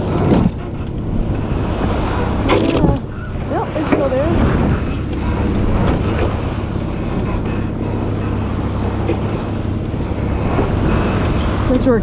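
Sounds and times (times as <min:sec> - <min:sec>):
boat engine drone: 0:00.0 - 0:12.0
water rushing along hull: 0:00.0 - 0:12.0
wind buffeting microphone: 0:00.0 - 0:12.0.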